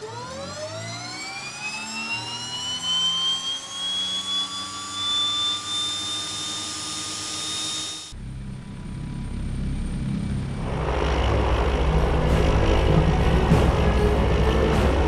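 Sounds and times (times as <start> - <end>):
turbine engine whine spooling up: 0.0 - 15.0.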